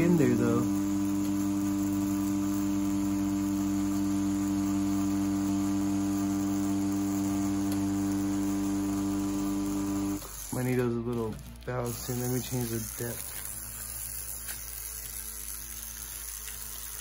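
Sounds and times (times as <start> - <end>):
tattoo pen motor hum: 0.0 - 17.0.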